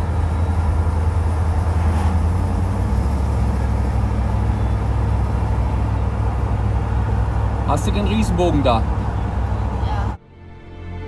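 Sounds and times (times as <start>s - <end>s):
tyre noise on paved road: 0.0s - 10.2s
engine drone: 0.0s - 11.0s.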